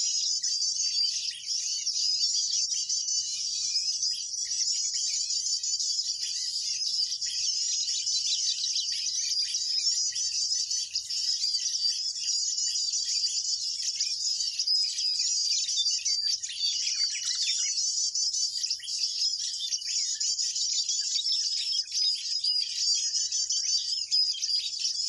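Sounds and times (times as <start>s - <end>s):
small songbirds twittering: 0.0s - 25.0s.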